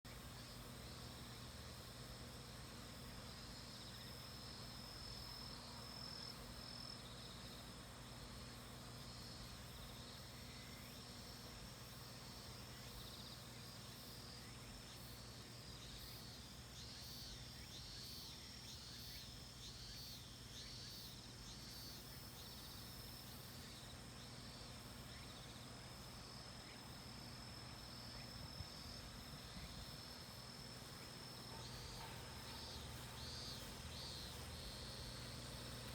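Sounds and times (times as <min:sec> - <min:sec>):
cicadas droning: 0:00.1 - 0:35.9.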